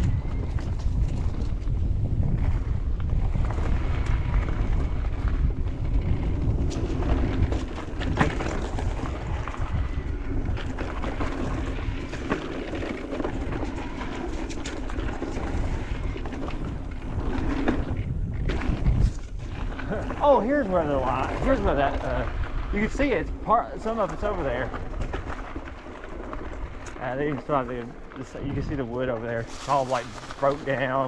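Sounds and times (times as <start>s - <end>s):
bike clicks and rattles: 0.0s - 31.0s
tyre rumble on dirt: 0.0s - 31.0s
wind buffeting microphone: 0.0s - 31.0s.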